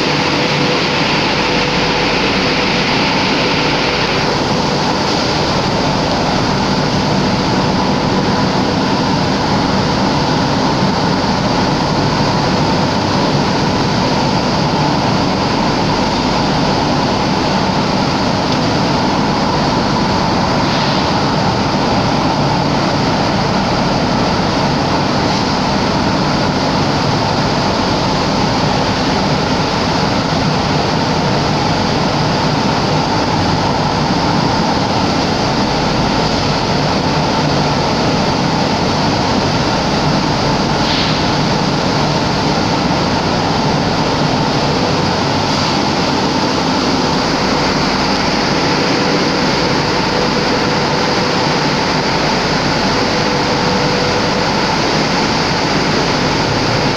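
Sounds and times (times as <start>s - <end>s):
constant hum: 0.0s - 56.9s
mill machinery running: 0.0s - 56.9s.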